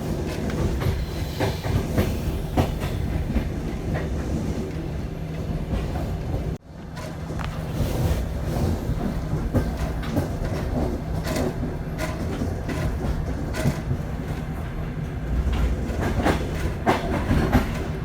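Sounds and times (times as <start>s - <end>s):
train rumbling on rails: 0.0s - 18.0s
wheels clacking over rail joints: 0.0s - 18.0s.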